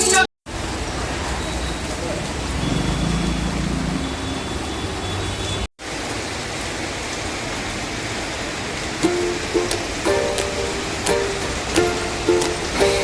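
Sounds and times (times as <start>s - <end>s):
steady rain falling: 0.5s - 4.0s, 5.8s - 13.0s.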